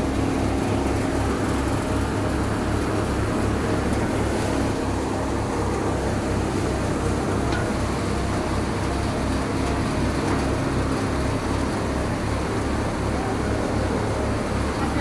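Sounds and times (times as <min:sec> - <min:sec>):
engine low throb: 0:00.0 - 0:15.0
milling machine rushing hum: 0:00.0 - 0:15.0.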